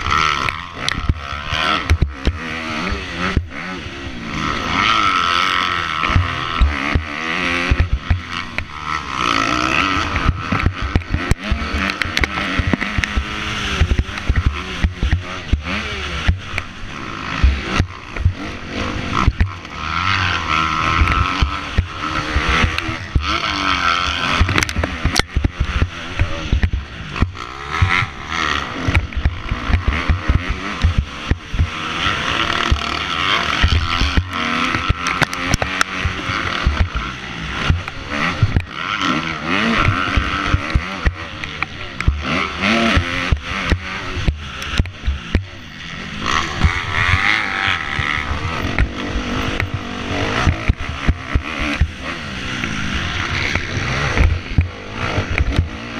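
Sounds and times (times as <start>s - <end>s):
thumps over bumps: 0.0s - 3.7s, 4.4s - 45.6s, 46.2s - 55.9s
motocross bike engine revving: 0.0s - 55.9s.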